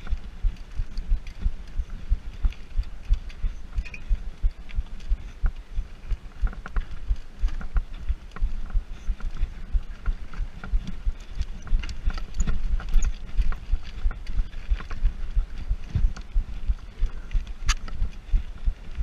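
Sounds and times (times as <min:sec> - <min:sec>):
mountain bike jolting over stony trail: 0:00.0 - 0:19.0.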